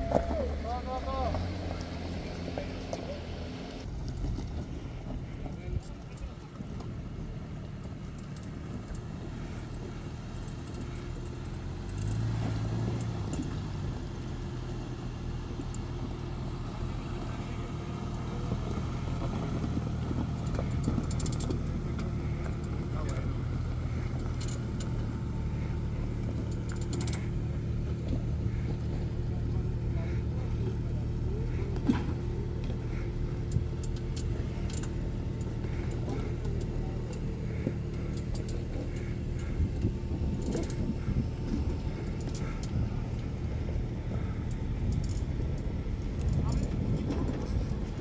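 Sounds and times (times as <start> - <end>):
engine running at low revs: 0.0 - 48.0.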